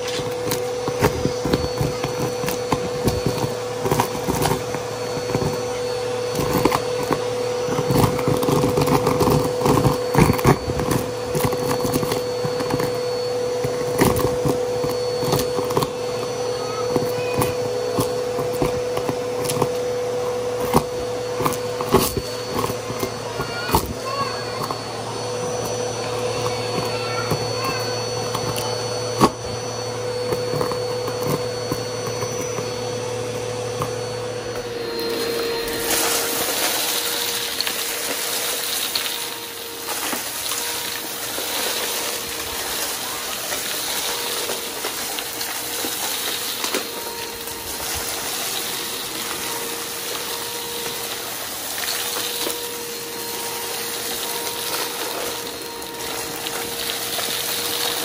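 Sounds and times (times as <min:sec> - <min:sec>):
vacuum cleaner whining: 0:00.0 - 0:58.0.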